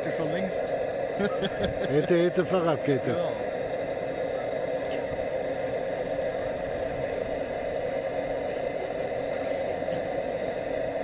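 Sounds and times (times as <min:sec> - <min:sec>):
blowtorch flame roaring: 0:00.0 - 0:11.0.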